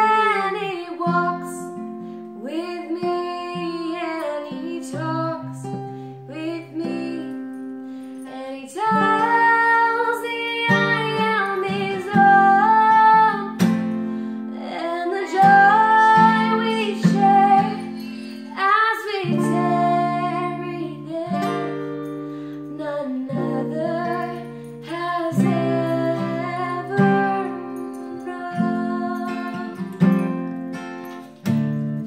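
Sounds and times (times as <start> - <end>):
woman singing slow melody: 0.0 - 30.5
acoustic guitar strummed and picked: 0.0 - 32.0.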